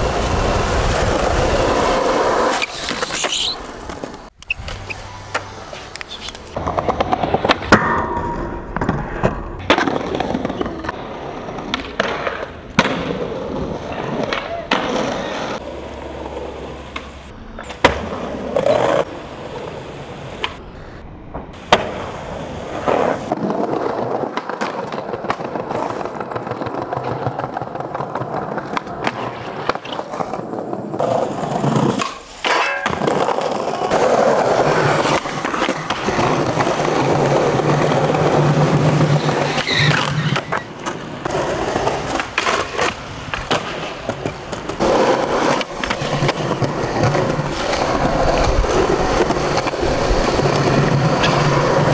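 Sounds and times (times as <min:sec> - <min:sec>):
skateboard wheels rolling on asphalt: 0:00.0 - 0:51.9
skateboard popping and landing clacks: 0:00.2 - 0:15.6, 0:16.9 - 0:19.1, 0:21.3 - 0:51.9.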